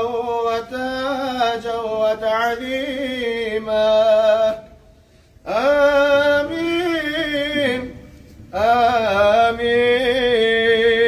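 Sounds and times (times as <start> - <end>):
man chanting melodically: 0.0 - 4.8, 5.4 - 11.0.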